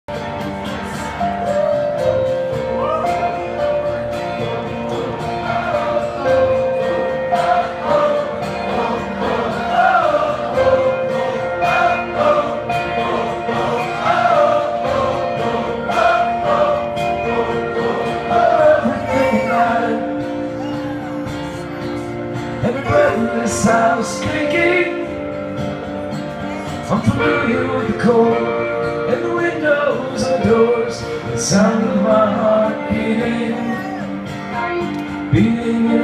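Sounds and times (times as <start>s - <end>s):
live band music: 0.1s - 36.0s
person singing: 0.6s - 25.4s, 26.3s - 36.0s.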